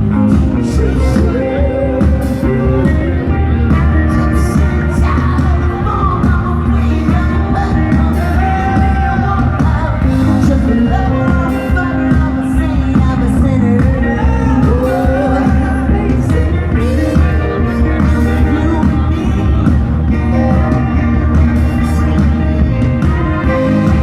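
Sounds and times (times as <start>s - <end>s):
heavy bass line: 0.0s - 24.0s
lead vocalist singing: 0.0s - 24.0s
live band music: 0.0s - 24.0s.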